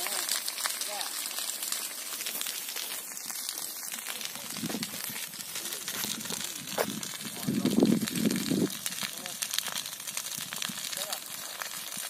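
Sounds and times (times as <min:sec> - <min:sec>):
dry grass crackling as it burns: 0:00.0 - 0:12.0.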